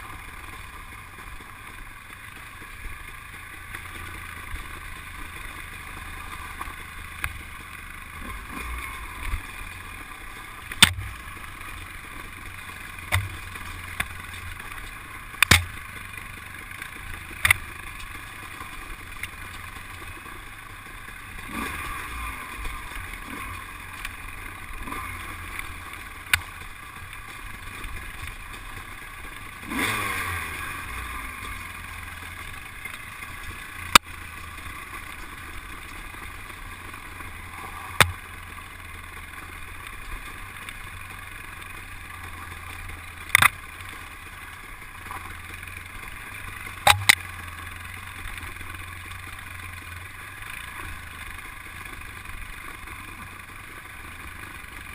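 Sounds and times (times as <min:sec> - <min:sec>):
dirt bike engine: 0:00.0 - 0:54.9.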